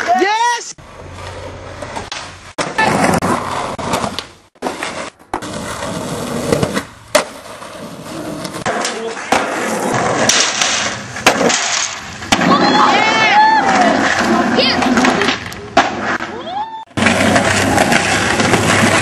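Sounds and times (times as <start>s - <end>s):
skateboard wheels rolling on concrete: 0.0s - 19.0s
skateboards clacking on ground: 1.0s - 19.0s.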